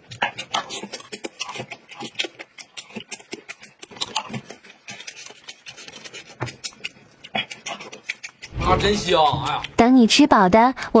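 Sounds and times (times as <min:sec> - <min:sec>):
wet chewing and lip-smacking: 0:00.0 - 0:10.2.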